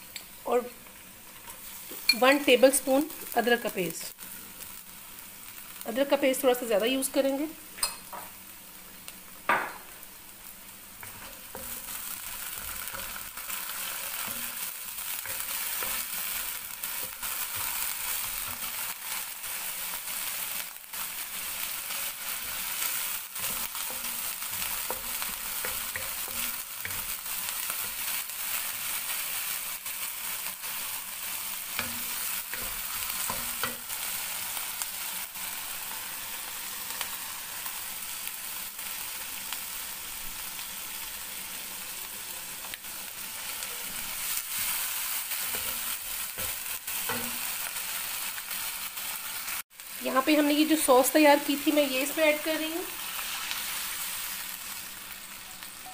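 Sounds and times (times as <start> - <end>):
onion sizzling in hot oil: 0.0 - 55.9.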